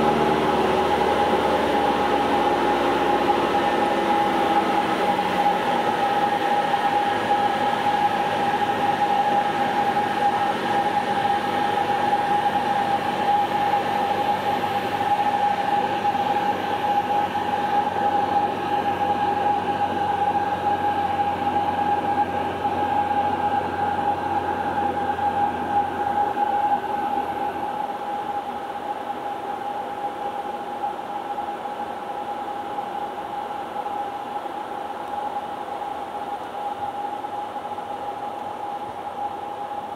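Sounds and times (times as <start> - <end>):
propeller engine droning: 0.0 - 39.9.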